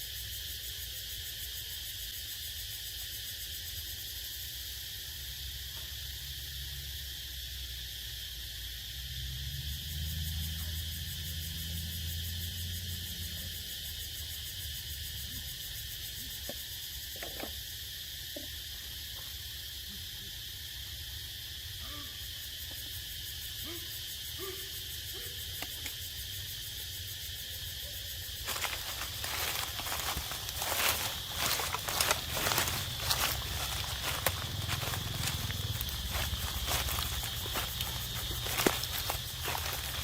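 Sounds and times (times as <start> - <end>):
forest insects droning: 0.0 - 40.0.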